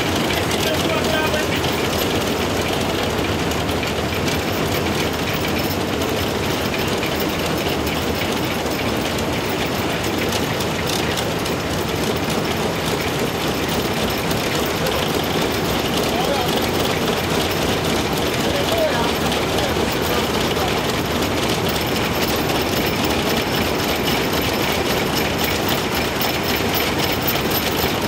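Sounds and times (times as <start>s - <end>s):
steam locomotive running gear clatter: 0.0s - 28.0s.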